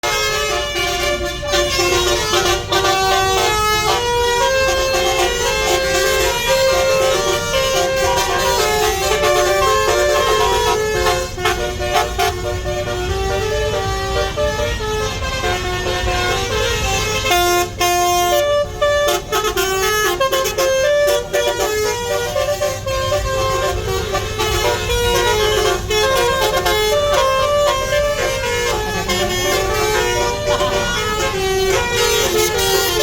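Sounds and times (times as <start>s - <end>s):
multi-tone horns playing a tune: 0.0s - 33.0s.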